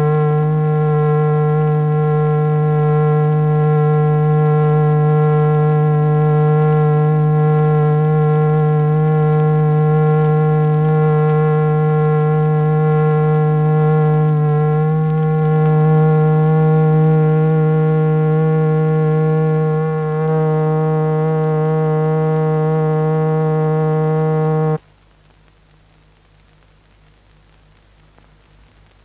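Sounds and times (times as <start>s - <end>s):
buzzy tone: 0.0s - 24.8s
faint hiss: 0.0s - 29.0s.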